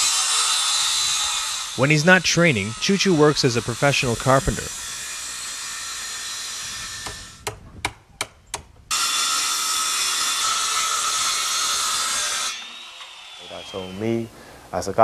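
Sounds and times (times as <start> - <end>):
circular saw cutting wood: 0.0 - 7.6, 8.9 - 14.3.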